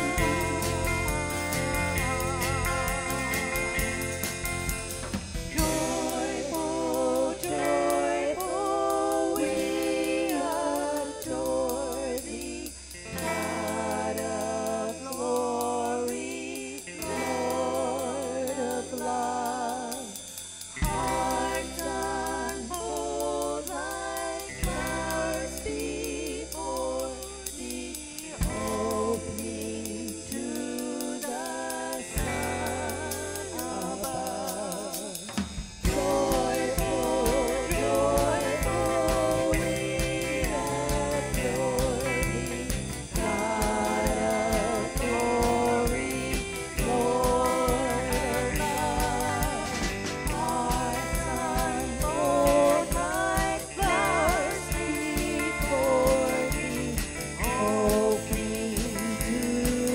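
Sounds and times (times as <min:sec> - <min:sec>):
voices singing over a band: 0:00.0 - 0:59.9.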